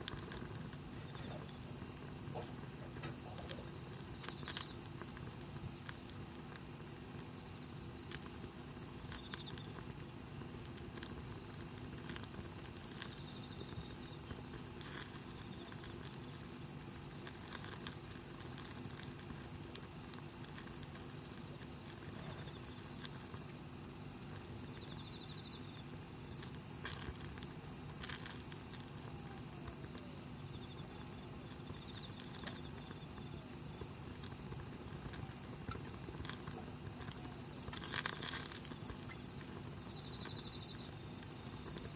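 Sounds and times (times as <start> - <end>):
campfire hissing: 0.0 - 41.9
fire crackles and pops: 0.0 - 41.9.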